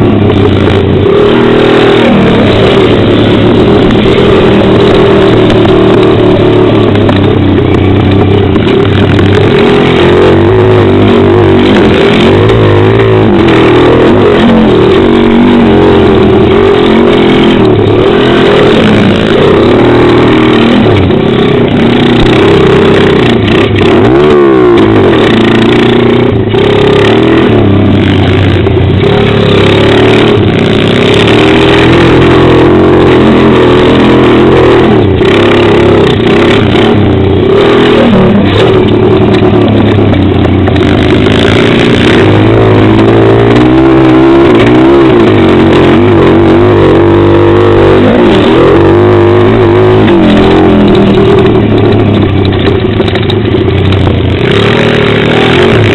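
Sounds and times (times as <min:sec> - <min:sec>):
pit bike engine revving: 0:00.0 - 0:55.9.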